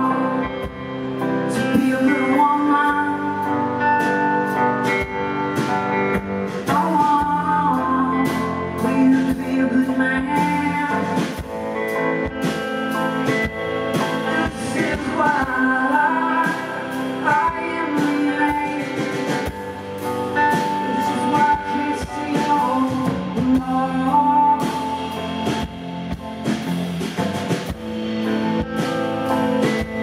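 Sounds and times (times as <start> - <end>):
drums: 0.0 - 30.0
electric guitar: 0.0 - 30.0
keyboard: 0.0 - 30.0.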